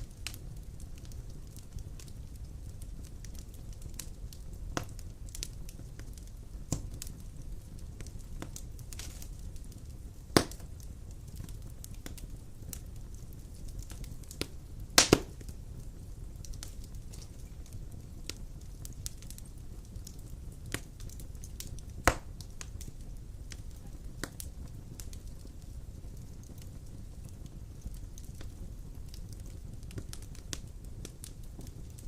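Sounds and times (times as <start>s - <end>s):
fire crackling: 0.0s - 32.0s
loud pops from fire: 0.0s - 32.0s
low rumble of flames: 0.0s - 32.0s.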